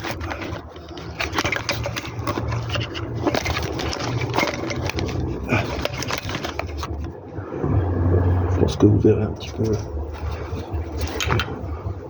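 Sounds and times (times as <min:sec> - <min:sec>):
scraping: 0:00.0 - 0:07.2, 0:09.4 - 0:12.0
low steady hum: 0:00.0 - 0:12.0.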